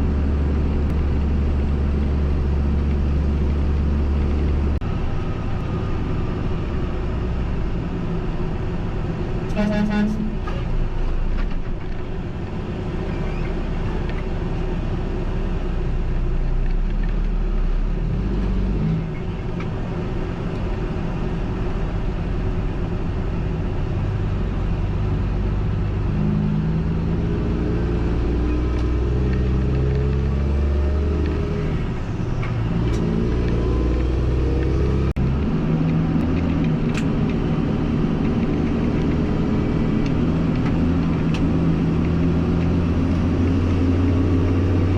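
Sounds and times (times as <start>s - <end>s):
truck diesel engine changing gears: 0.0s - 44.9s.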